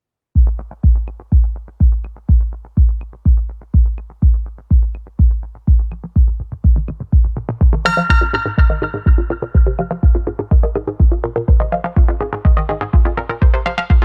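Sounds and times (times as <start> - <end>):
booming kick drum: 0.4 - 14.0
electronic music: 0.4 - 14.0.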